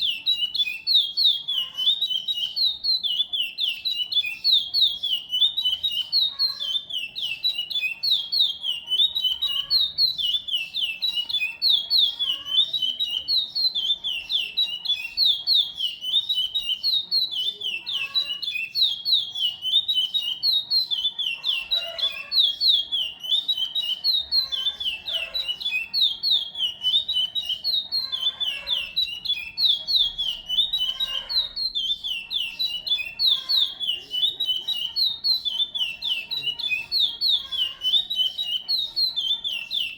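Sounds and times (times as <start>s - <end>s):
fainter lower bird call: 0.0s - 39.9s
songbird singing: 0.0s - 39.9s.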